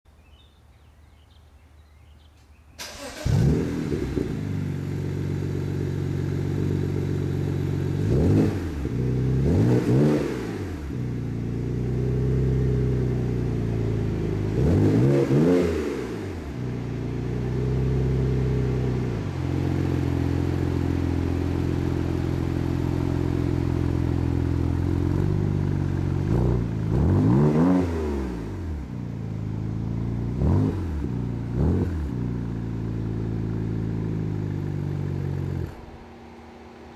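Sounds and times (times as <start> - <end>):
car engine idling and revving: 2.8 - 36.9.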